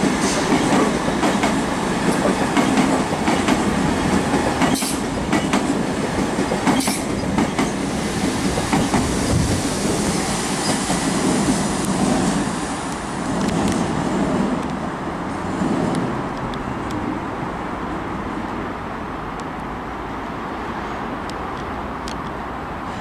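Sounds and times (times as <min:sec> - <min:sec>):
traffic rumble: 0:00.0 - 0:23.0
train running past: 0:00.0 - 0:23.0.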